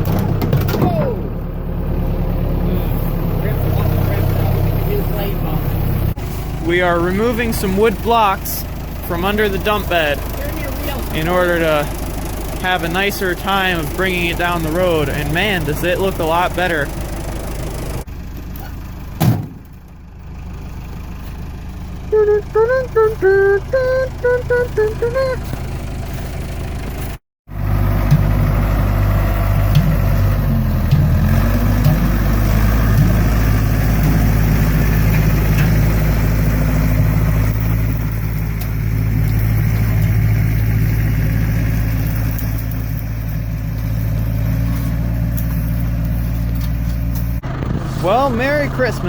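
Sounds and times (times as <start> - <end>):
vehicle engine humming: 0.0 - 49.0.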